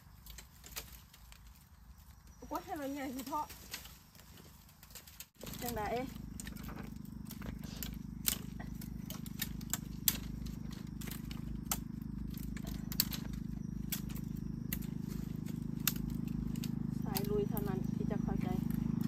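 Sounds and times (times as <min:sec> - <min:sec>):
bamboo stems snapping and crackling: 0:00.0 - 0:19.0
steady low hum: 0:00.0 - 0:19.0.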